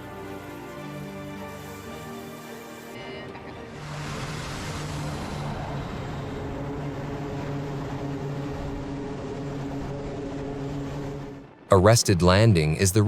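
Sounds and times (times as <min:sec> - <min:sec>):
aircraft engines humming: 0:01.6 - 0:13.0.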